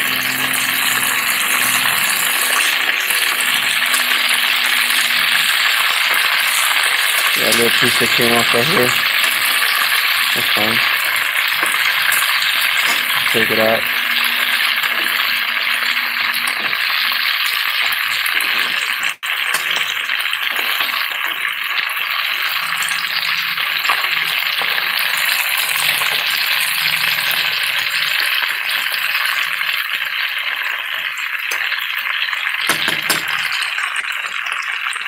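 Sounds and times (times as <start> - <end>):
fish frying in hot oil: 0.0 - 35.0.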